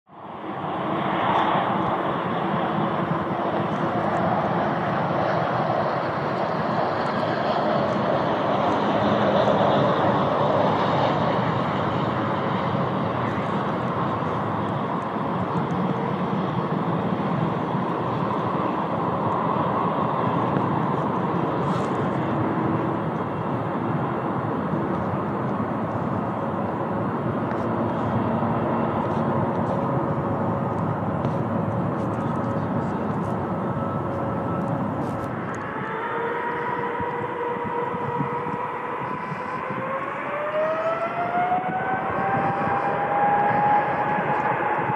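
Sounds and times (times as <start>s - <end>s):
jet engines rumbling at low power: 0.1s - 44.9s.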